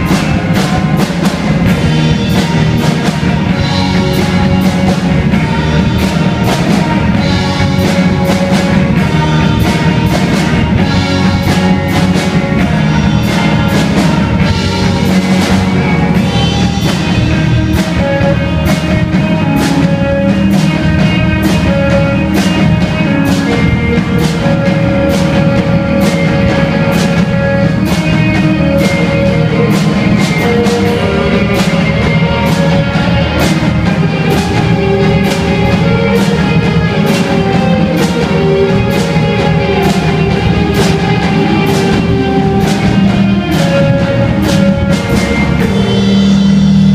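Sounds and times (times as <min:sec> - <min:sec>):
bass guitar: 0:00.0 - 0:46.9
drum kit beat with cymbals: 0:00.0 - 0:46.9
electric guitar: 0:00.0 - 0:46.9
electric keyboard: 0:00.0 - 0:46.9.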